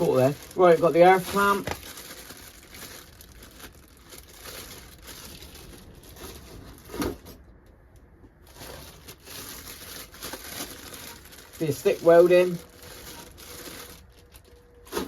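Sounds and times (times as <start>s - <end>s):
packaging being unwrapped: 0.0s - 7.2s, 8.5s - 15.0s.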